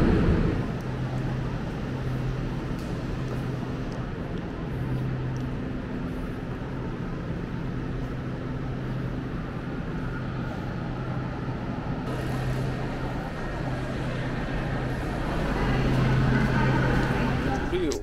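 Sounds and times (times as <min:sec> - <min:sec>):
train mechanical hum: 0:00.0 - 0:18.0.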